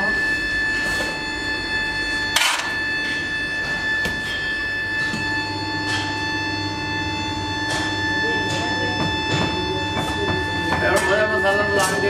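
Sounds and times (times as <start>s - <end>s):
hum with high whine: 0.0s - 12.0s.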